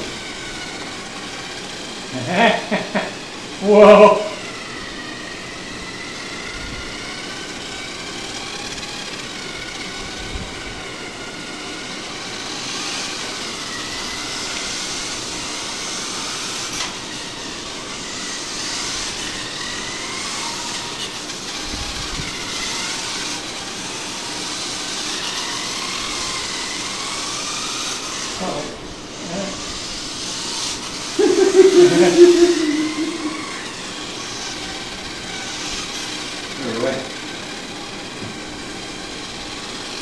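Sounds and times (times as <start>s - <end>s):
small electric motors whining: 0.0s - 40.0s.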